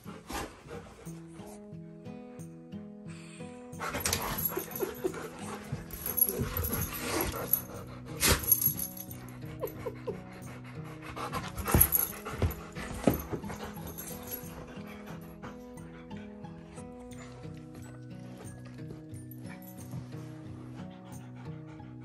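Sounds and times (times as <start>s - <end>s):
dogs panting and scuffling: 0.0s - 1.8s, 3.8s - 22.0s
background music: 0.0s - 22.0s.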